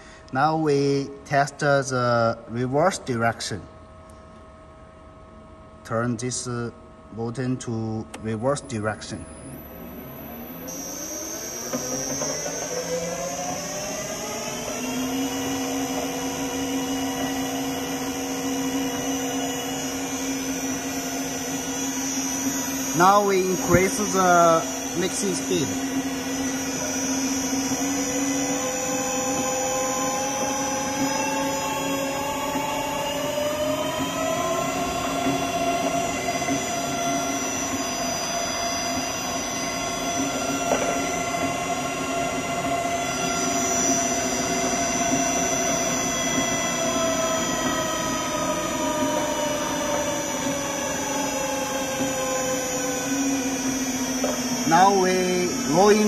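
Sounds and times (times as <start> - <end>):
mixer motor whining: 9.2 - 56.0.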